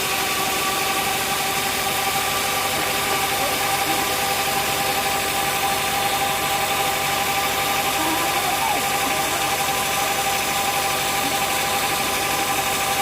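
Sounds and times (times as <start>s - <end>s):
sawmill machinery drone: 0.0s - 13.0s
whining tones: 0.0s - 13.0s.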